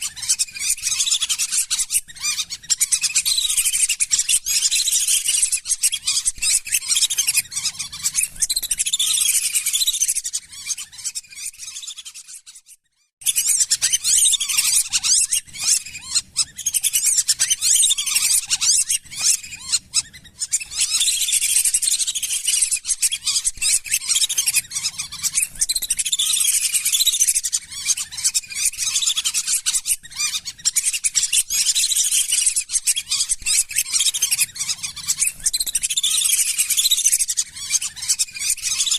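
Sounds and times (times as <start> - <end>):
ducks whistling calls: 0.0 - 12.5, 13.2 - 38.9.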